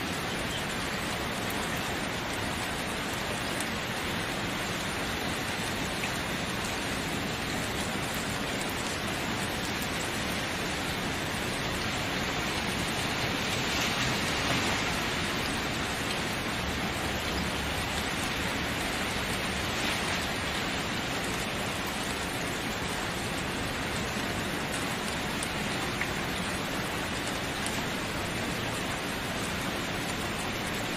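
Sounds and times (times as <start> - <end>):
steady rain hissing: 0.0 - 30.9.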